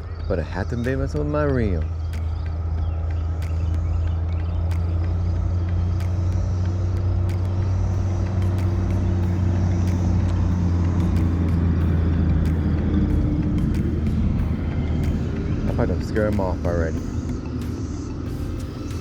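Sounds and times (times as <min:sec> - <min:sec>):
motor humming: 0:01.2 - 0:19.0.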